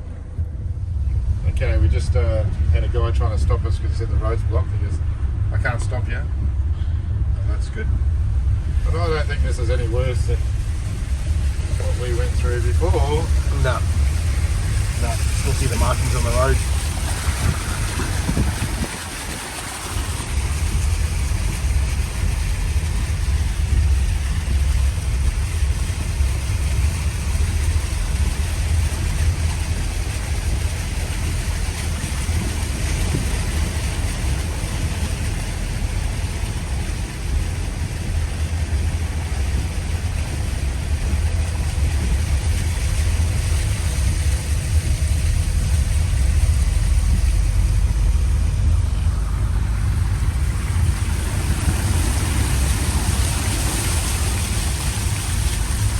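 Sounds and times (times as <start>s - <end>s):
engine and road rumble: 0.0s - 55.9s
tyres hissing on wet road: 8.4s - 55.9s.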